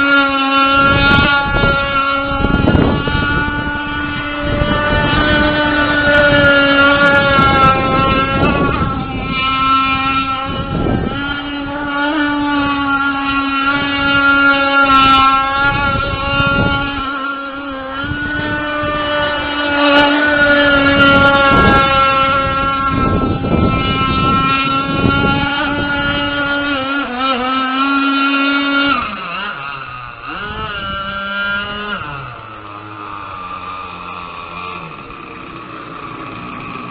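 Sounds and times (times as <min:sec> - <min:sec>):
two-stroke boat engine revving: 0:00.0 - 0:36.9.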